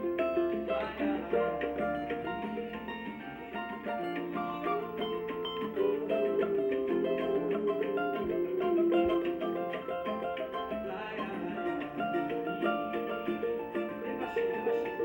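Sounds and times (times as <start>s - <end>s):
cavaquinho plucked and strummed: 0.0s - 15.0s
instrumental backing music: 0.0s - 15.0s.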